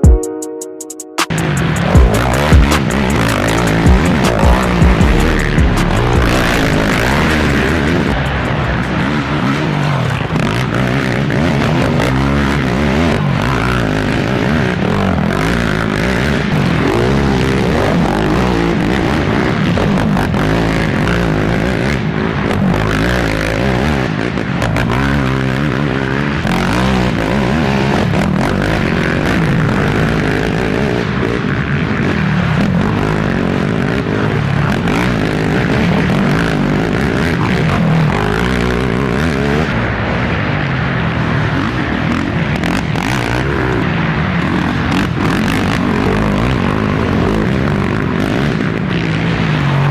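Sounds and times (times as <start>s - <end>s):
atv engines revving: 1.3s - 49.9s.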